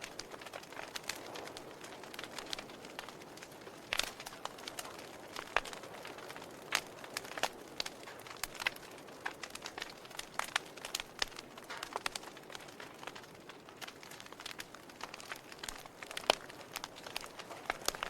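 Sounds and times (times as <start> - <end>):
soft steady hiss: 0.0 - 18.0
wood fire crackling: 0.0 - 18.0.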